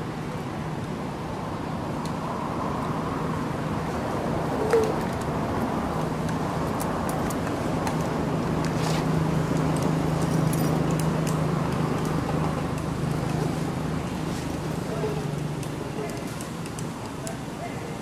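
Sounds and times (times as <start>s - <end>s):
engine rumble: 0.0s - 18.0s.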